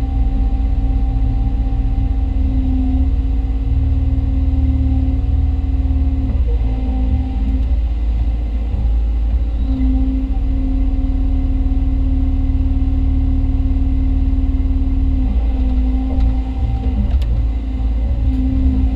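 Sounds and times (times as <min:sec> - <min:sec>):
excavator engine rumble: 0:00.0 - 0:18.9
hydraulic whine: 0:00.0 - 0:18.9.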